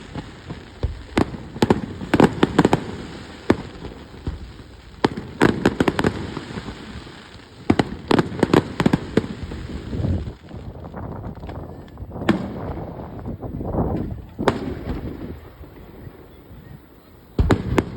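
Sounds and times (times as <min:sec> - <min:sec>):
fireworks bangs: 0:00.0 - 0:17.9.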